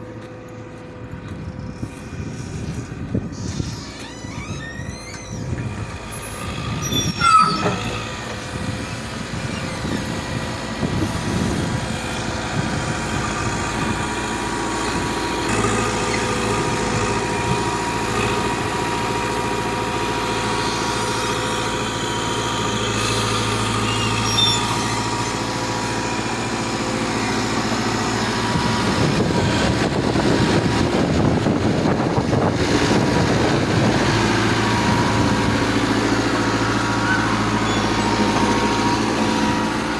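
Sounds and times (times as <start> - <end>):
backhoe loader running: 0.0 - 39.9.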